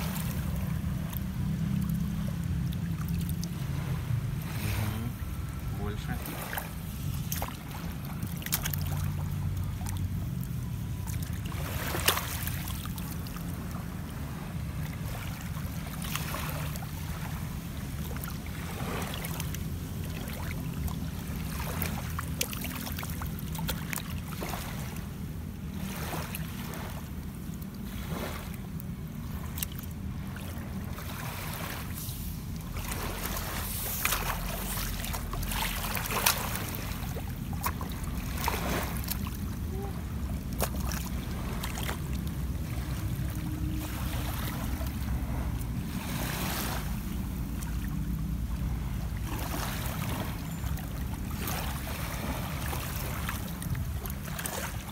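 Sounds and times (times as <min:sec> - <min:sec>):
seawater splashing and dripping: 0:00.0 - 0:54.9.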